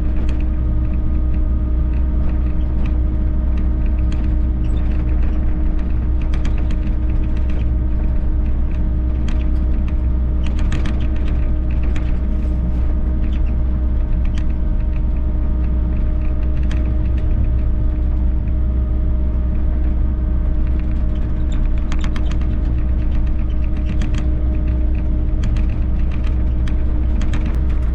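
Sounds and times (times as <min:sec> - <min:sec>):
excavator engine rumble: 0:00.0 - 0:27.9.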